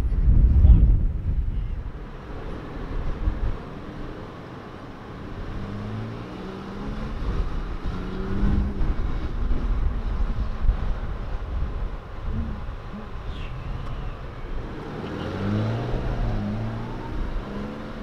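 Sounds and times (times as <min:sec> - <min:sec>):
engines rumbling and revving: 0:00.0 - 0:18.0.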